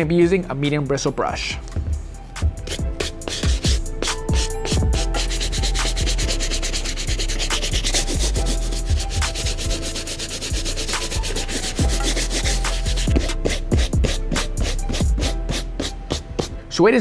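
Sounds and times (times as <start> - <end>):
brush scrubbing suede: 2.6 - 16.5.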